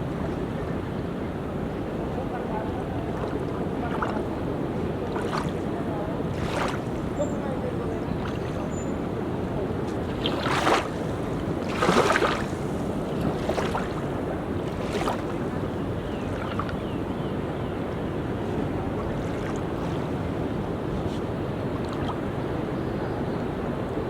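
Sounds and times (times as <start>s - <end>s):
ocean surf washing on beach: 0.0s - 22.8s
wind on microphone: 0.0s - 24.0s.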